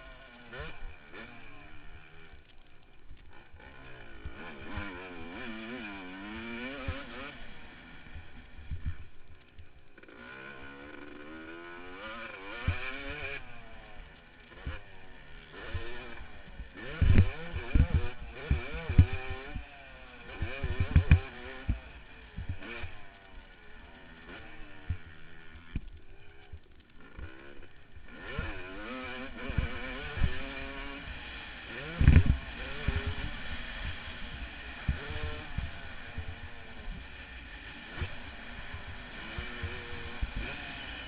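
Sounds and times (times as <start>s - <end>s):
motocross engine revving: 0.0s - 41.0s.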